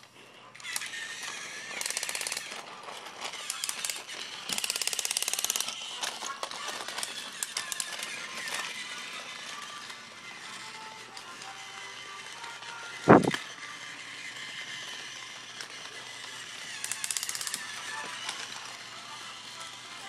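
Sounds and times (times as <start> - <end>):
toy train motor buzzing: 0.0 - 20.0
plastic toy clicks: 0.6 - 9.9, 11.0 - 20.0.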